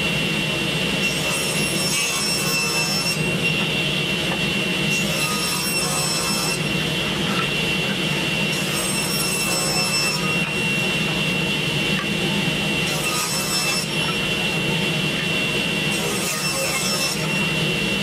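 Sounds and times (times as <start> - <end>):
table saw whining: 0.0 - 18.0.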